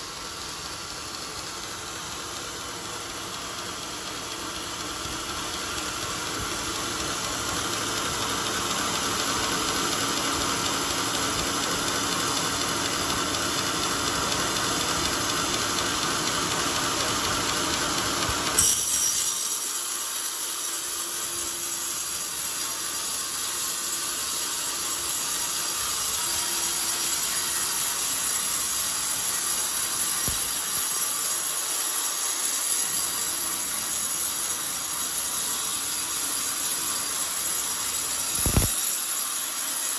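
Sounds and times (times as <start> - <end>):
band saw blade cutting wood: 0.0 - 39.9.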